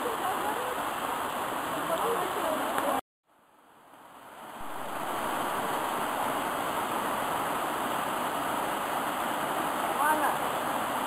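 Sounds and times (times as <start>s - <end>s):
water rushing over rocks: 0.0s - 3.0s, 3.9s - 11.0s.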